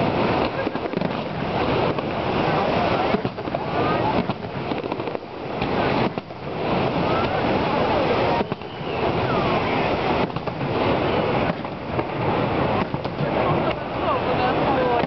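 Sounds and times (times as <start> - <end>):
crowd voices: 0.0 - 15.0
falling water rushing: 0.0 - 15.0
fireworks bangs: 0.0 - 15.0.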